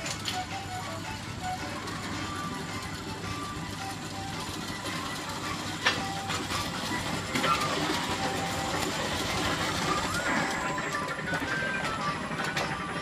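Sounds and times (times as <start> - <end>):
ride-on toy rolling on track: 0.0 - 13.0.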